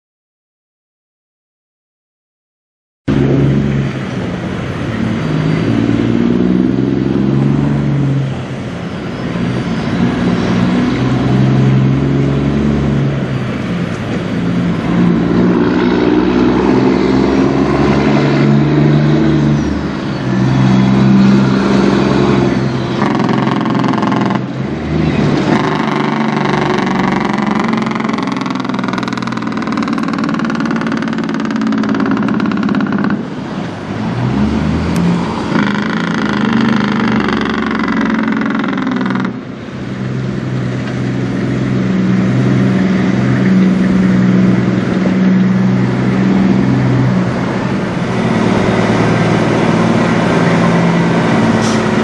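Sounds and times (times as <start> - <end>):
truck diesel engine shifting gears: 3.1 - 52.0.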